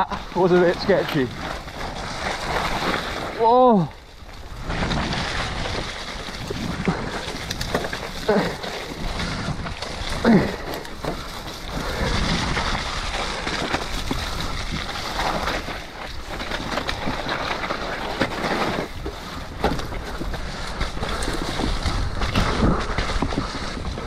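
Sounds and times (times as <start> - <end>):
bike knocking and rattling: 0.0 - 24.0
bike tyres rolling on dirt: 0.0 - 24.0.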